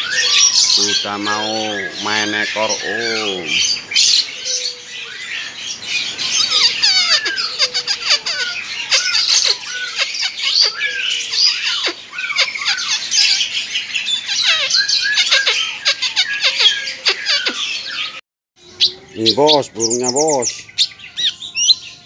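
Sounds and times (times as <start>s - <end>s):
songbirds chirping and whistling: 0.0s - 22.0s.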